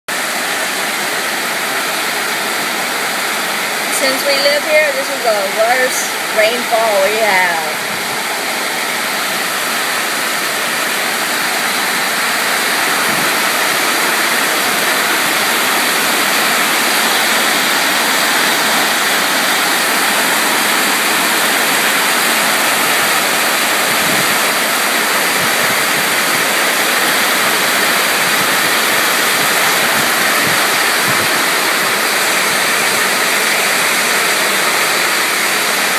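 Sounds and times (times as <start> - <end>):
heavy rain pouring: 0.1 - 35.9.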